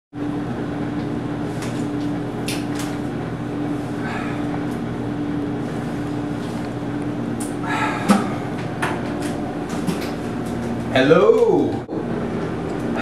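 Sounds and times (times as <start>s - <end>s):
steady mechanical hum: 0.2s - 13.0s.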